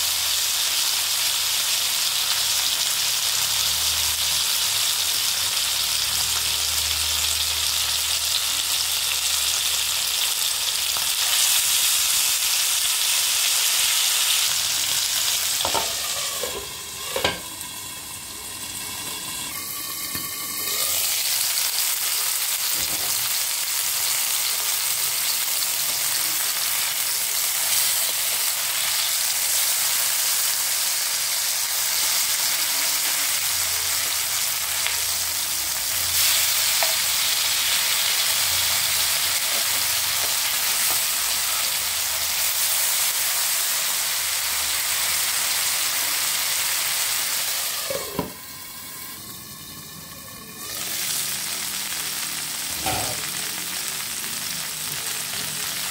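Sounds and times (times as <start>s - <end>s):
fish sizzling in hot oil: 0.0s - 55.9s.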